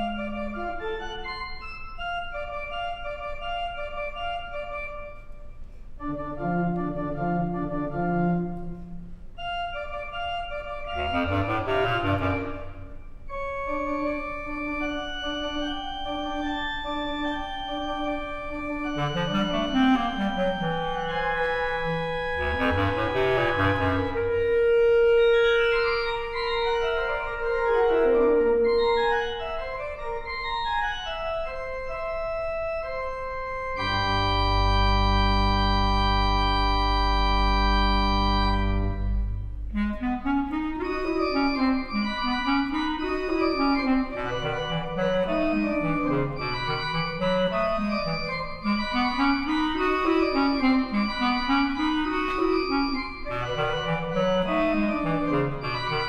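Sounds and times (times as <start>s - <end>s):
clarinet: 0.0s - 56.0s
organ: 0.0s - 56.0s.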